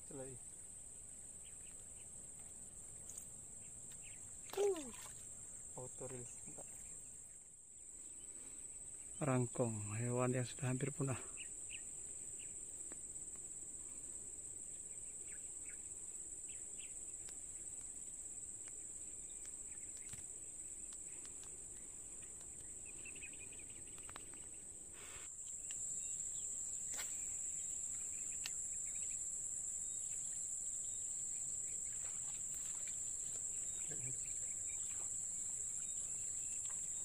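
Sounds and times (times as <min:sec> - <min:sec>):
insects droning: 0:00.0 - 0:37.0
faint chirps and clicks: 0:01.4 - 0:09.2, 0:11.3 - 0:14.1, 0:14.7 - 0:37.0.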